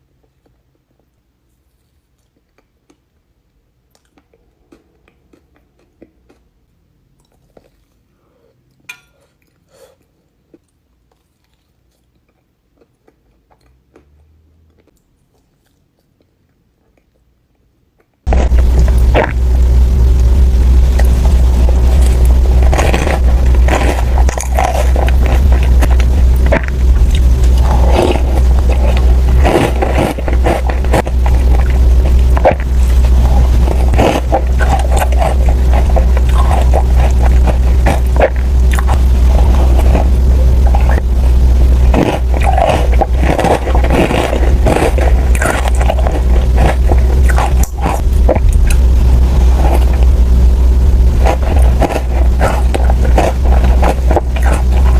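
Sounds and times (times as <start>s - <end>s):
steady low hum: 0.0s - 54.9s
crunchy chewing: 3.9s - 6.5s, 9.4s - 17.2s, 20.9s - 54.9s.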